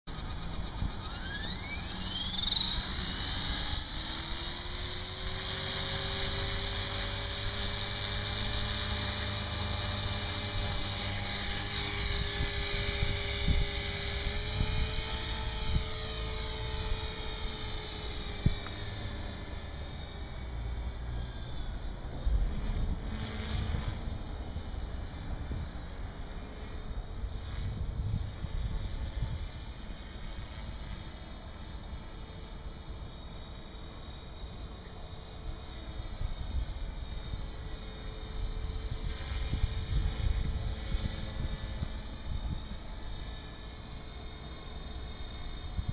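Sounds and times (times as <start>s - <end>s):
rc helicopter motor whine: 0.1s - 45.9s
rotor hum: 0.1s - 45.9s.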